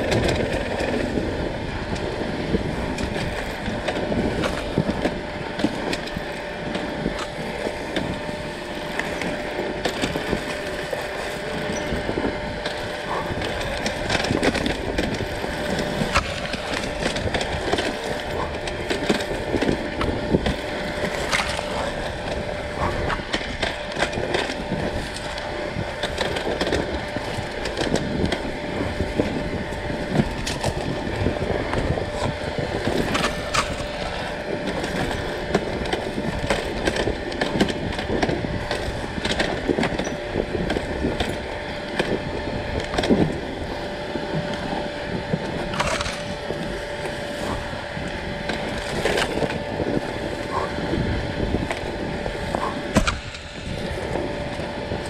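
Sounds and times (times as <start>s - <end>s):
bike knocking and rattling: 0.0s - 55.0s
dirt bike engine running: 0.0s - 55.0s.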